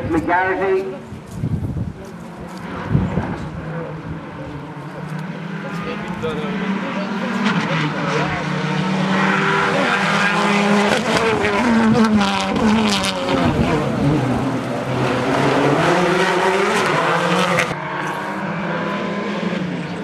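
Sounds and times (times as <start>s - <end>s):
rally car engine revving: 2.2s - 20.0s.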